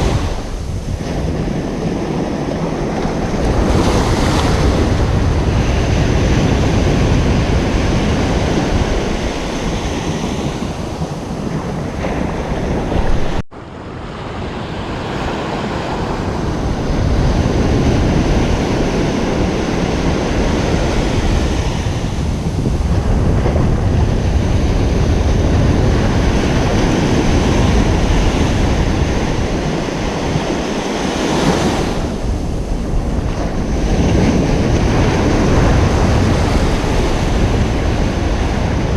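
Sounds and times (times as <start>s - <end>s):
ocean surf on a beach: 0.0s - 38.9s
wind rumbling on microphone: 0.0s - 38.9s.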